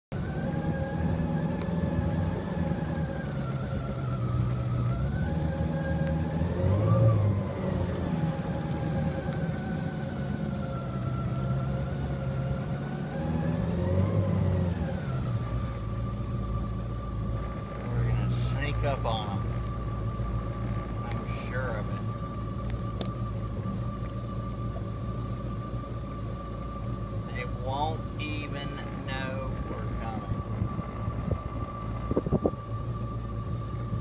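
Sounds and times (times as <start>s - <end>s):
jet ski engine running: 0.1s - 34.0s.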